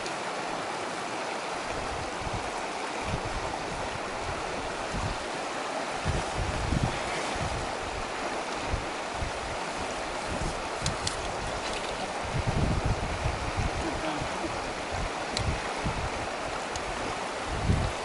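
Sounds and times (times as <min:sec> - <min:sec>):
river water rushing over rocks: 0:00.0 - 0:18.0
wind buffeting microphone: 0:01.6 - 0:18.0.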